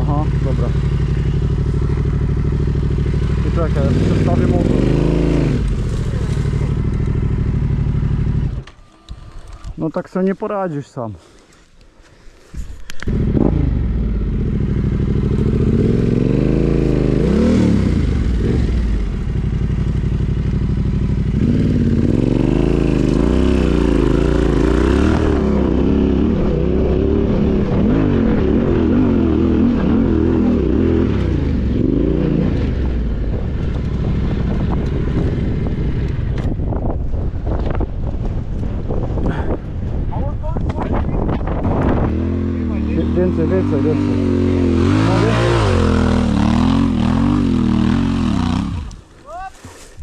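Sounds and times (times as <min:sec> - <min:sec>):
motorcycle engine revving: 0:00.0 - 0:09.6, 0:13.0 - 0:37.8, 0:40.7 - 0:49.2.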